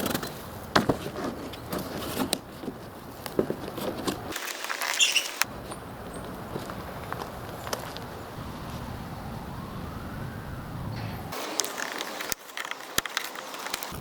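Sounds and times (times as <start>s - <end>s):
scrapes and rustles: 0.0s - 8.9s, 11.4s - 14.0s.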